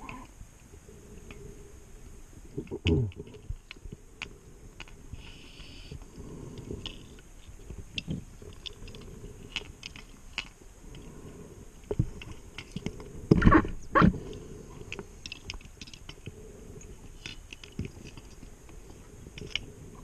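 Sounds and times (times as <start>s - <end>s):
underwater clicks and ticks: 2.6s - 11.2s, 11.8s - 20.0s.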